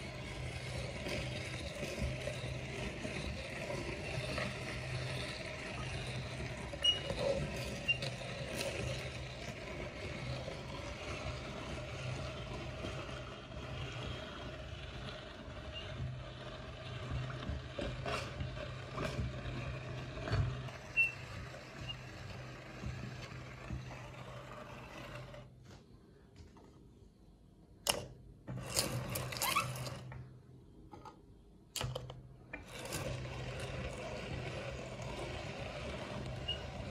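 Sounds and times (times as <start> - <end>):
meat grinder grinding: 0.0 - 25.4, 32.6 - 36.9.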